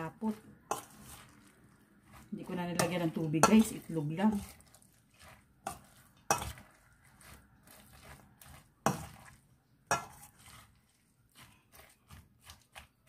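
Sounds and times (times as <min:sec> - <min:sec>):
vegetables stirred in thick batter: 0:00.0 - 0:13.0.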